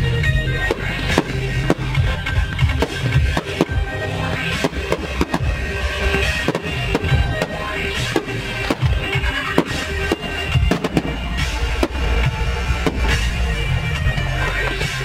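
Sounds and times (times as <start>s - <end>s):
fireworks banging: 0.0s - 15.0s
music with heavy bass: 0.0s - 15.0s.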